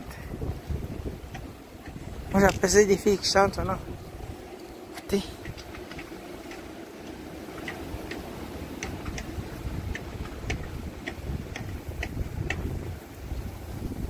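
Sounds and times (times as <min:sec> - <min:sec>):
strong gusting wind: 0:00.0 - 0:14.0.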